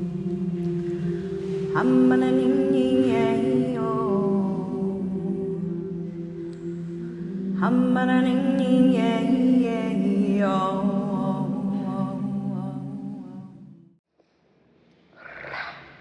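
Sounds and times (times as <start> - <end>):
low drone of humming voices: 0.0 - 13.8.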